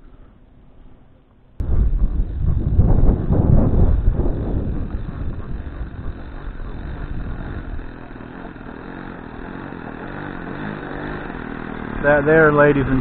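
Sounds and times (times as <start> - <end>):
model airplane engine idling: 1.6 - 13.0.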